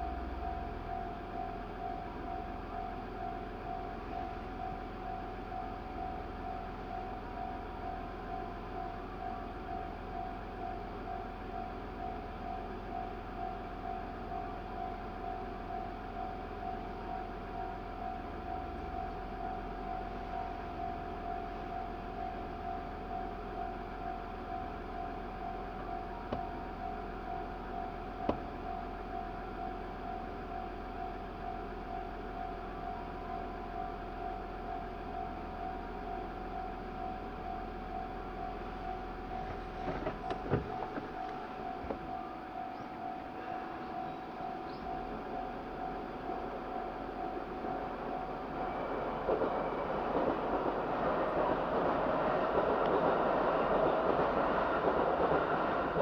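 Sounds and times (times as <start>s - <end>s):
level-crossing alarm bell ringing: 0.0s - 39.8s, 40.6s - 56.0s.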